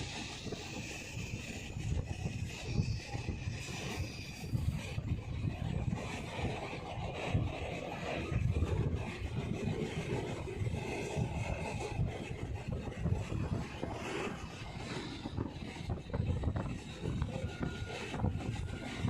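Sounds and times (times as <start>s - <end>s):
train wheels rumbling on track: 0.0s - 19.0s
wind buffeting microphone: 0.0s - 19.0s.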